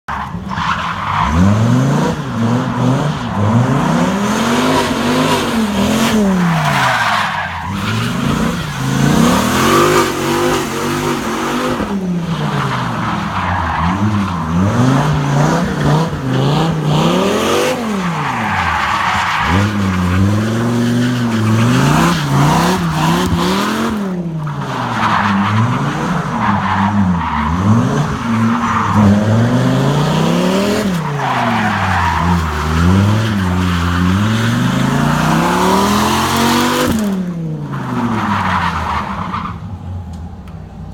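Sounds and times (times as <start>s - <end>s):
tyres skidding and squealing: 0.0s - 40.9s
car engine revving: 0.2s - 40.0s.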